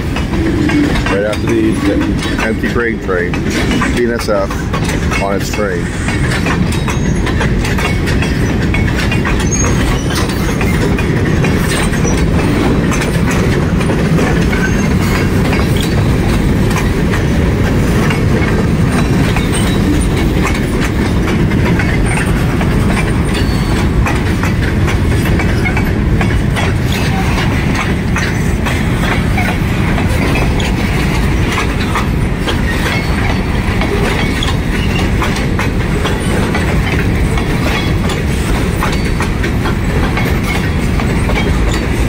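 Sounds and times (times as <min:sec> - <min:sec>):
rumble of train wheels on rail: 0:00.0 - 0:42.0
wheels clicking and clacking: 0:00.0 - 0:42.0.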